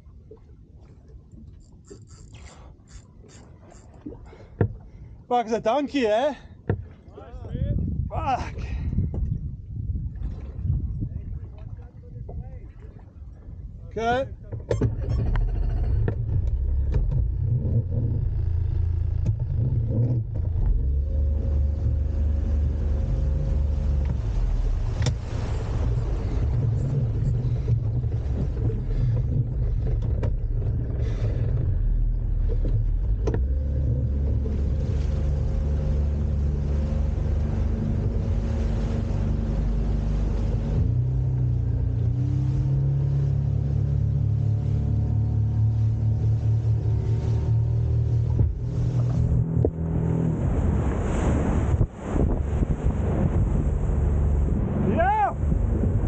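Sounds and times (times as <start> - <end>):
boat engine rumbling: 0.0 - 56.0.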